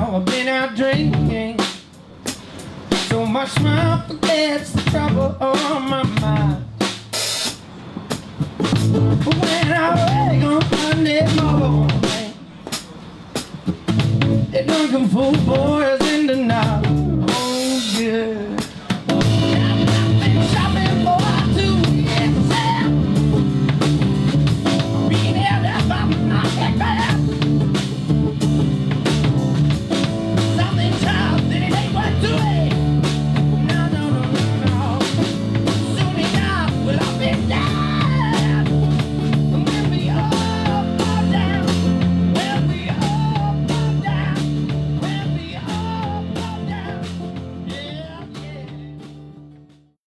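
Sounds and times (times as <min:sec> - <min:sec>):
rock band instrumental: 0:00.3 - 0:49.9.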